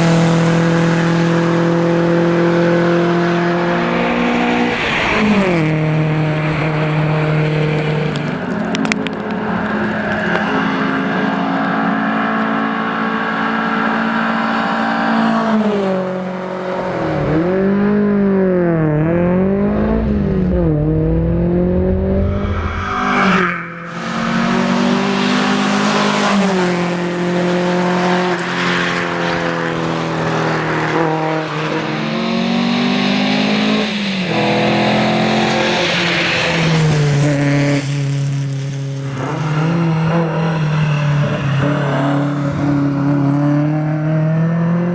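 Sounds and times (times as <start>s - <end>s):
rally car engine running hard: 0.0s - 44.9s.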